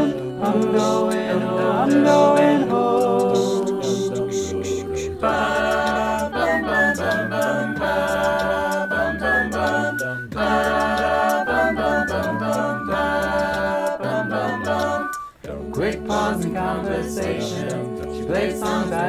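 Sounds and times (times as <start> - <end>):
a cappella group singing harmony: 0.0 - 19.0.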